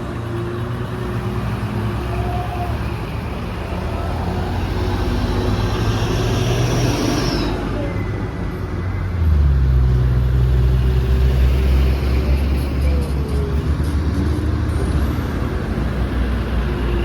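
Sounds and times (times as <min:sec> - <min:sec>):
truck diesel engine pulling uphill: 0:00.0 - 0:16.7.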